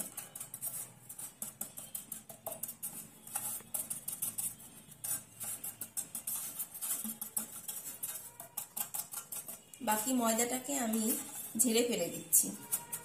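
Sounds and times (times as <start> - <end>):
background music with ticking beat: 0.0 - 11.5.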